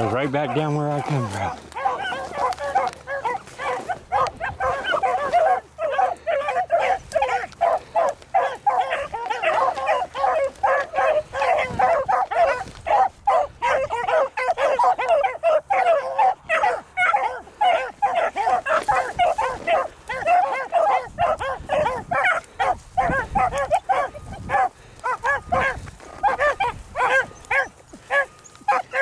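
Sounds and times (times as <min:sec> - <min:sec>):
hounds baying: 0:00.0 - 0:29.0.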